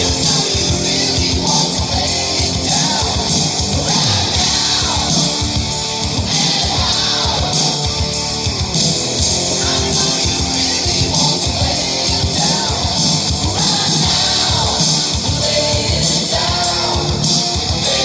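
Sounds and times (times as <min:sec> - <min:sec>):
distant rock music with singing: 0:00.0 - 0:18.0.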